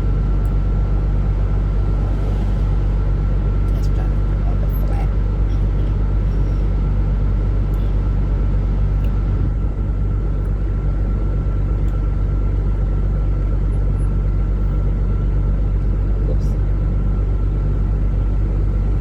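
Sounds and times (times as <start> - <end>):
truck engine rumble: 0.0 - 19.0.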